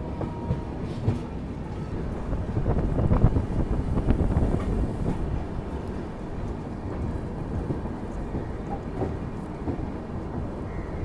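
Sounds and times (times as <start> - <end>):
train coach rumbling and rattling: 0.0 - 11.0.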